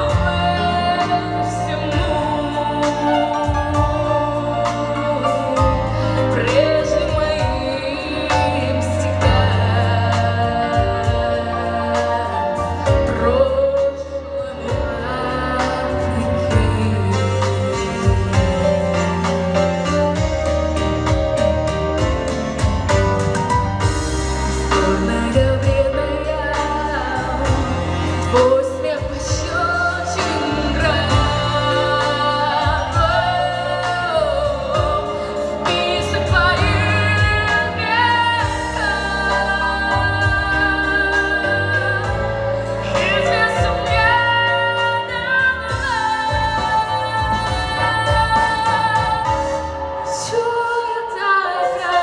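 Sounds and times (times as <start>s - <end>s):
woman singing: 0.0s - 21.2s, 24.0s - 52.0s
instrumental accompaniment with bass: 0.0s - 52.0s.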